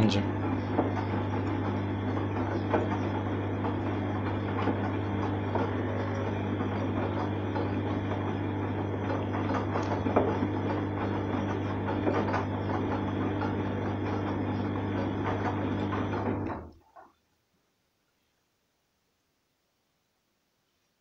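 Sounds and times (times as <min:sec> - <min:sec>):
washing machine motor hum: 0:00.0 - 0:17.2.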